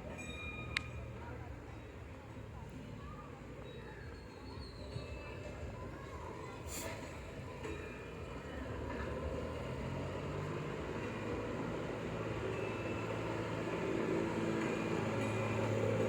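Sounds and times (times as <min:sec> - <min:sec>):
mini train mechanical hum: 0:00.0 - 0:16.0.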